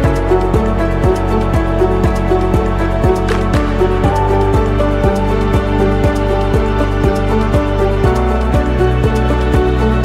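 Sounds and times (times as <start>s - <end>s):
music with held notes: 0.0s - 10.0s.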